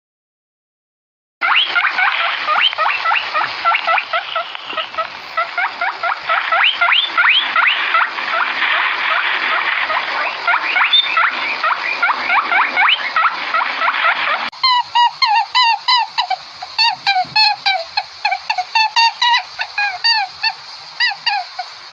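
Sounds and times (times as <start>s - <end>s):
evenly spaced calls: 1.4s - 21.9s
rabbits squealing: 1.4s - 21.9s
steady hiss: 1.6s - 21.9s.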